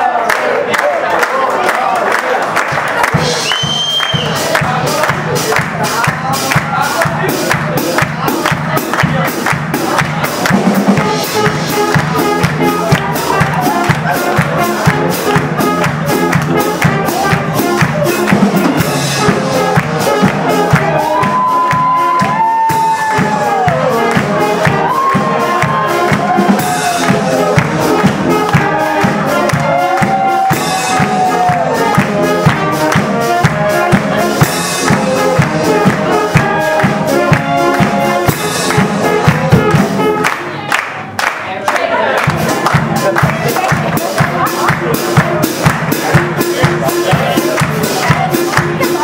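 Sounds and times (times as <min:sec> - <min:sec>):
fast percussion beat: 0:02.4 - 0:41.2, 0:42.1 - 0:49.0
brass playing melody: 0:02.6 - 0:40.7, 0:42.2 - 0:49.0.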